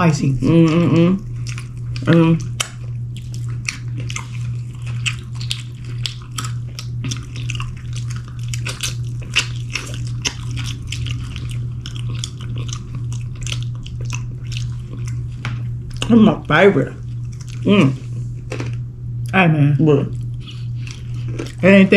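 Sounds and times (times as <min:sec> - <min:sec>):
steady low hum: 0:00.0 - 0:21.9
chewing crunchy food: 0:00.3 - 0:19.4, 0:20.0 - 0:21.9.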